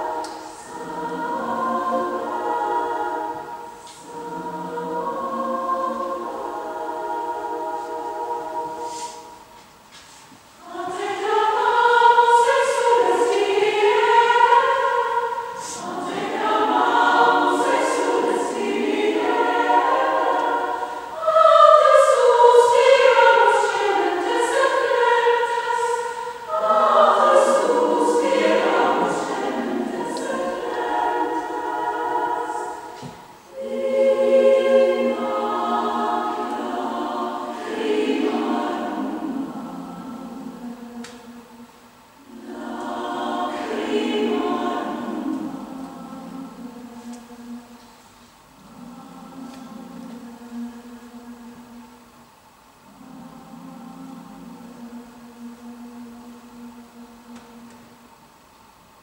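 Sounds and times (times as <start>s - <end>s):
women's choir singing: 0.0s - 58.4s.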